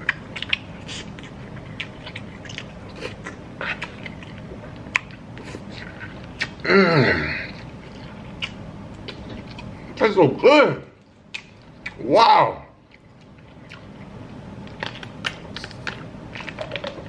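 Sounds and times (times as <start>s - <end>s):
person chewing food: 0.0s - 10.0s, 12.8s - 17.0s.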